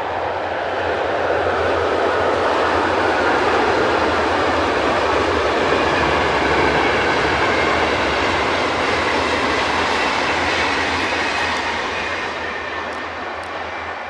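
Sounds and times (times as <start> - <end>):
train wheels rushing on rails: 0.0 - 14.0.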